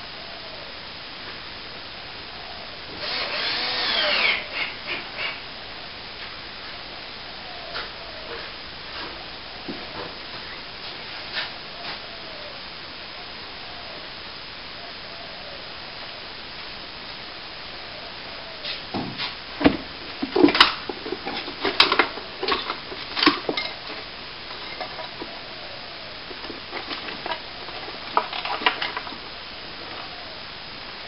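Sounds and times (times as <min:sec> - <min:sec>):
steady background hiss: 0:00.0 - 0:31.0.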